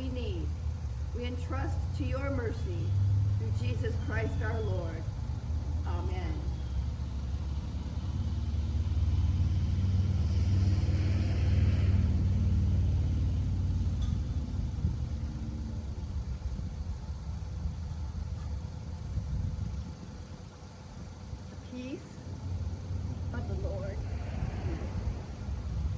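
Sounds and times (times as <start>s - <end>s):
vehicle engine low rumble: 0.0s - 25.9s.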